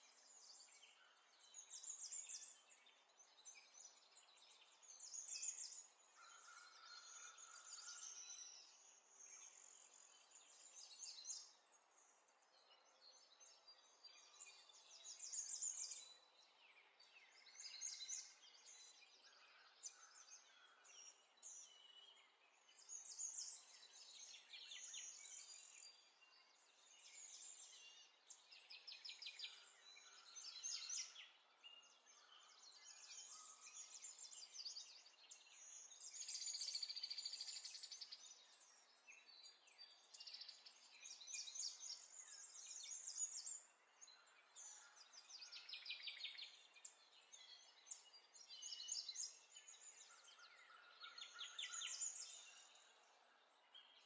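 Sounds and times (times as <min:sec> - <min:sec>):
birds chirping and trilling: 0:00.1 - 0:54.0.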